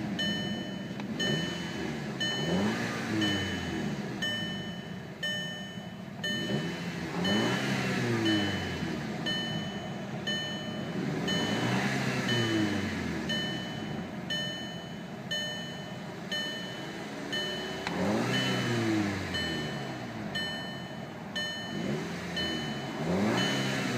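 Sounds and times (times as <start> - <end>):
car engine revving: 0.0 - 23.9
warning chime beeping: 0.0 - 23.9.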